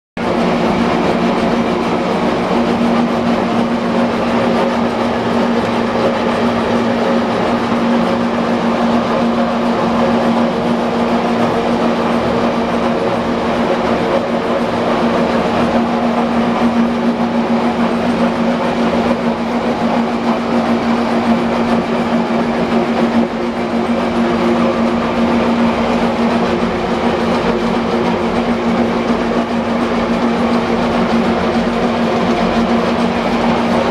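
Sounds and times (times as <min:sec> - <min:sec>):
gear hobbing machine drone: 0:00.2 - 0:33.9
gear-train rattle: 0:00.2 - 0:33.9.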